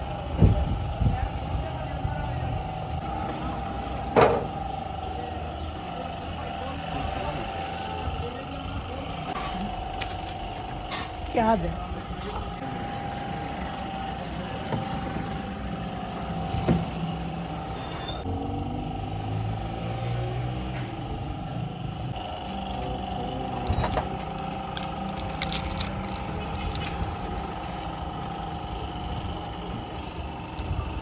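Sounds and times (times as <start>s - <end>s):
car engine whining: 0.0s - 31.0s.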